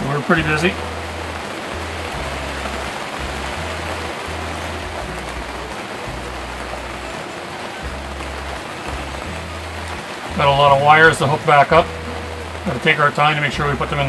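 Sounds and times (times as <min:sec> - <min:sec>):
low bass music: 0:00.0 - 0:14.0
steady rain falling: 0:00.0 - 0:14.0.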